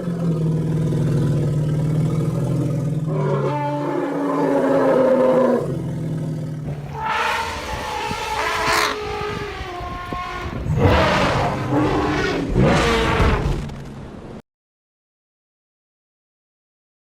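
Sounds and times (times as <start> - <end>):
creature roars gliding in pitch: 0.0 - 13.7.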